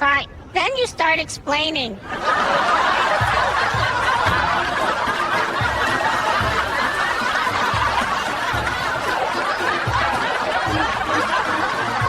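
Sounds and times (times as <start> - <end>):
crowd laughing: 2.0 - 12.0.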